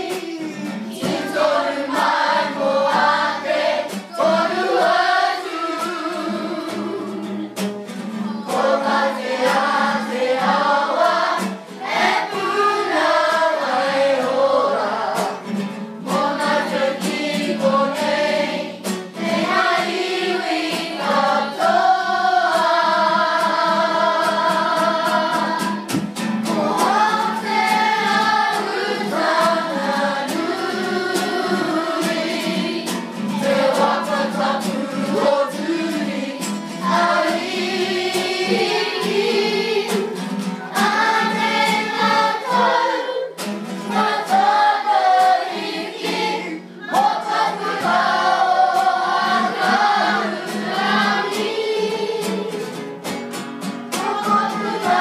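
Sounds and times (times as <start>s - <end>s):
choir singing: 0.0s - 52.8s, 54.0s - 55.0s.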